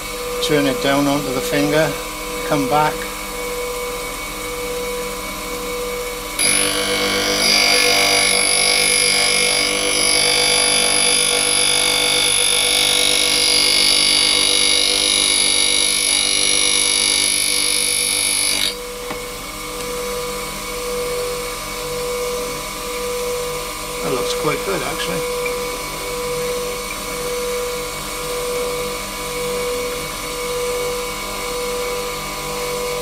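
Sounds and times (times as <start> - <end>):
bench grinder running: 0.0 - 33.0
high-pitched metal grinding whine: 0.0 - 33.0.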